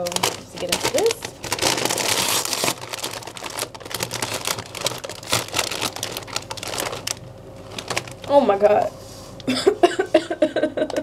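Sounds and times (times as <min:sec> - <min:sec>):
crisp bag crinkling: 0:00.0 - 0:08.9.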